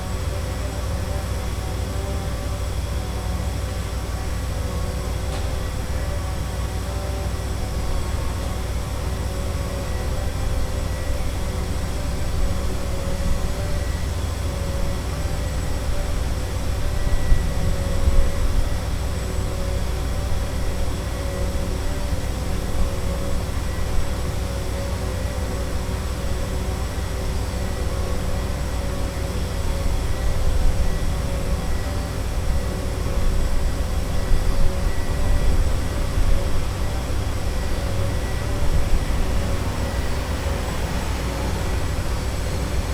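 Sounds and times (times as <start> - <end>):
constant droning hum: 0.0 - 42.9
construction machinery: 0.0 - 42.9.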